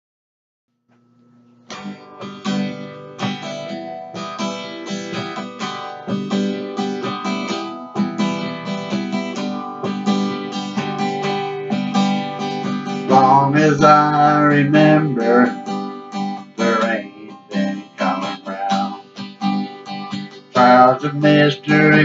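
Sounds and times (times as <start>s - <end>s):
acoustic guitar strumming: 1.4s - 22.0s.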